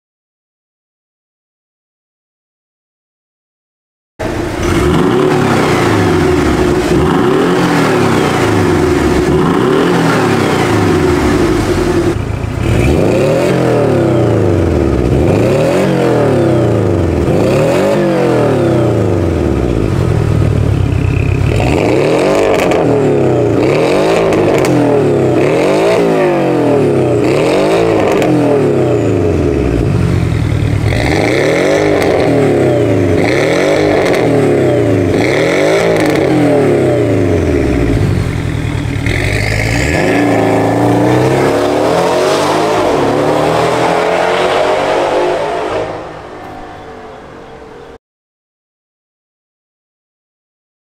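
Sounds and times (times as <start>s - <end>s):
sports car engine revving: 4.2s - 48.0s.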